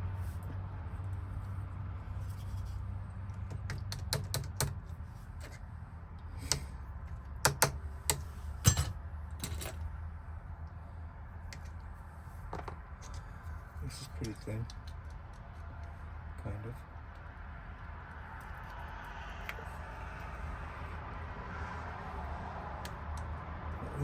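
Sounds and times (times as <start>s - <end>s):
steady low hum: 4.8s - 24.0s.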